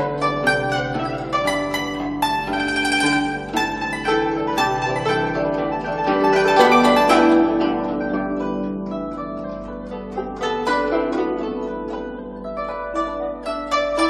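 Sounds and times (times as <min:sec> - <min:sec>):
plucked string instrument melody: 0:00.0 - 0:14.0.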